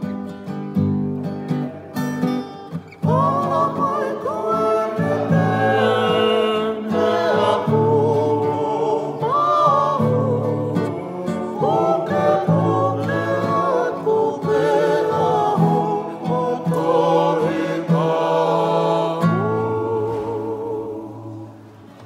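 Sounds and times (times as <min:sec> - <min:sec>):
strummed acoustic guitar: 0:00.0 - 0:22.0
ukulele: 0:00.0 - 0:22.0
men singing in harmony: 0:03.0 - 0:22.0.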